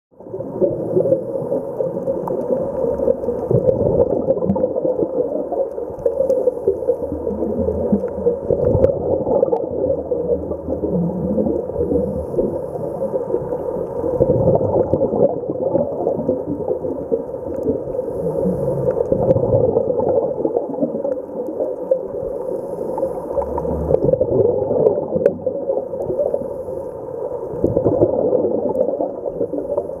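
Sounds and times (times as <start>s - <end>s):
underwater regulator bubbles: 0.2s - 30.0s.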